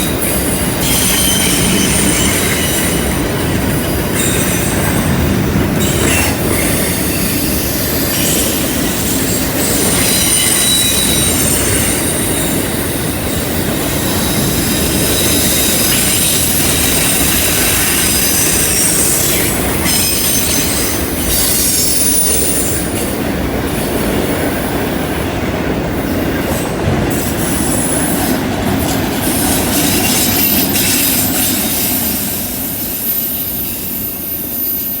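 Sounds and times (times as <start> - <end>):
steel wheels squealing on rail: 0.0 - 35.0
train cars rumbling past: 0.0 - 35.0.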